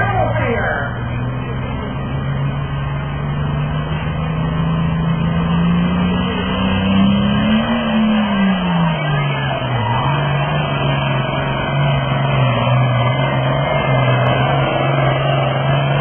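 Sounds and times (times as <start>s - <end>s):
tractor engine running hard: 0.0s - 16.0s.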